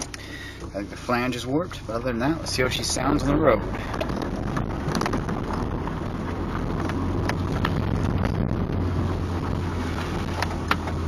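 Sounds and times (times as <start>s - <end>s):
car engine and exhaust drone: 0.0s - 11.0s.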